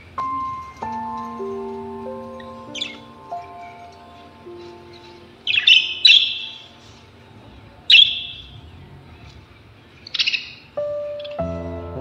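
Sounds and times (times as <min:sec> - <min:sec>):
parrots chirping: 0:00.0 - 0:11.4
faint background music: 0:00.0 - 0:12.0.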